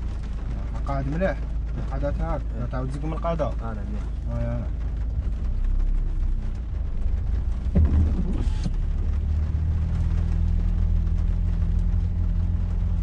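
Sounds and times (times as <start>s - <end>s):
car engine and road rumble: 0.0s - 13.0s
steady engine hum: 0.0s - 13.0s.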